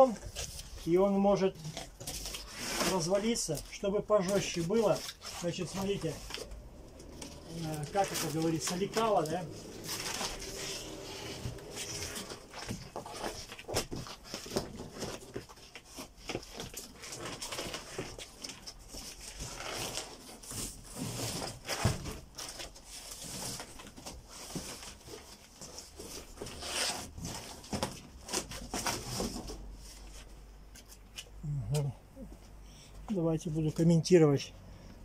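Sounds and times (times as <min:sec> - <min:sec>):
cardboard rustling and scraping: 0:00.0 - 0:31.2.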